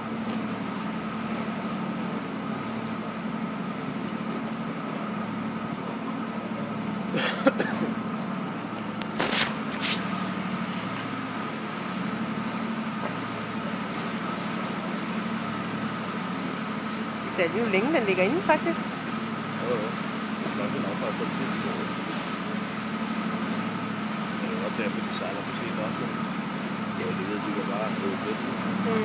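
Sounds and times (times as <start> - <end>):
ferry engines humming: 0.0 - 29.0
high machinery whine: 0.0 - 29.0.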